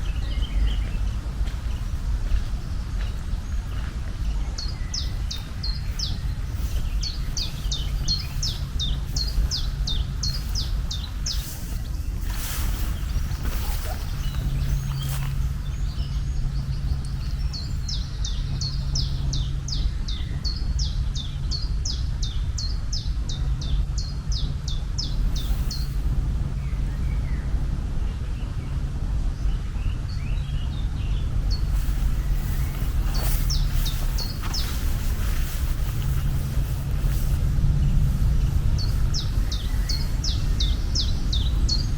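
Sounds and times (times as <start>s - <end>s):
birds chirping: 0.0s - 41.9s
low rumble and hum: 0.0s - 41.9s.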